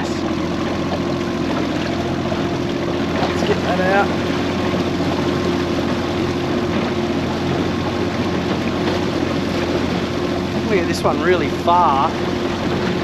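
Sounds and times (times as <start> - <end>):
outboard motor running: 0.0 - 13.0
water noise: 0.0 - 13.0.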